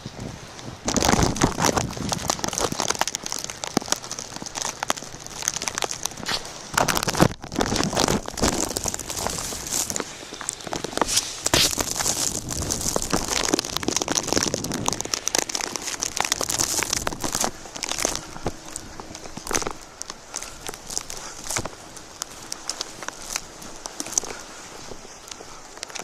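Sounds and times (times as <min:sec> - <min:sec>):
crunching in deep snow: 0:00.0 - 0:26.0
small irregular clicks: 0:00.5 - 0:26.0.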